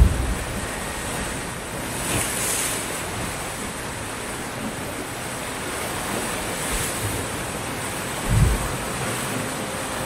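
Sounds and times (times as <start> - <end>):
surf washing up a beach: 0.0 - 10.0.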